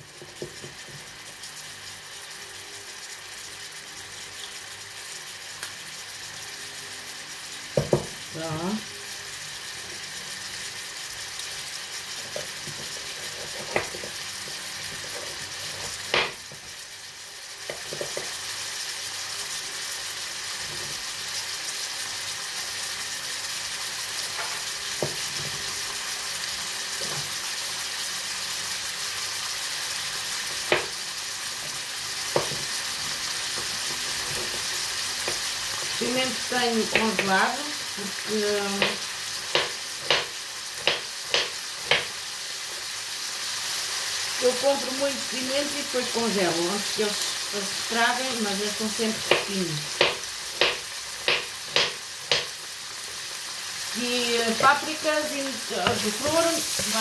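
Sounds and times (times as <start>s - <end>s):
beef sizzling in a frying pan: 0.0s - 57.0s.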